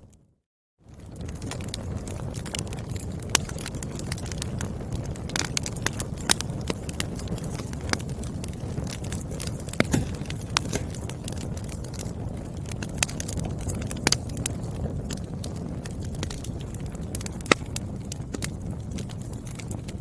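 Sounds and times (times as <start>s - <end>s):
firewood crackling: 0.9s - 20.0s
sharp pops of burning wood: 2.3s - 20.0s.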